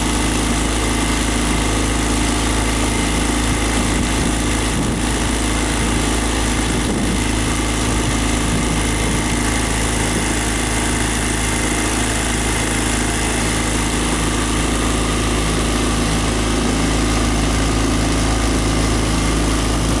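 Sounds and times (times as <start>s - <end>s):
outboard motorboat engine running: 0.0s - 20.0s.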